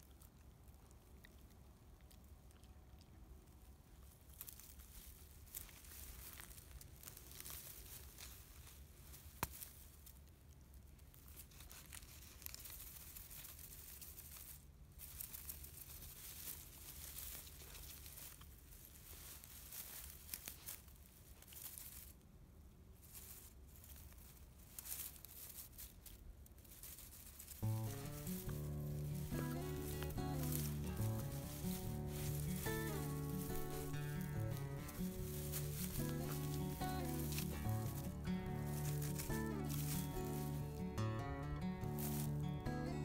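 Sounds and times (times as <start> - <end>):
puppy chewing in dry grass: 0.0 - 43.0.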